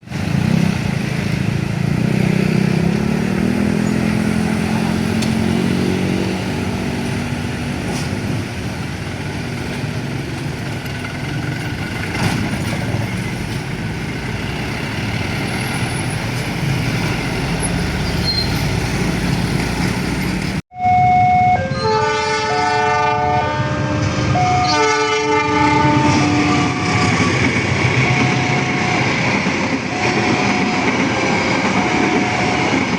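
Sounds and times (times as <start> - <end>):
road noise: 0.0 - 32.9.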